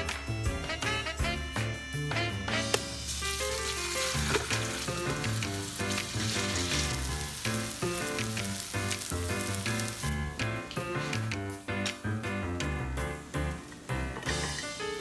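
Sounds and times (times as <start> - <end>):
background music: 0.0 - 15.0
patties sizzling in oil: 2.4 - 15.0.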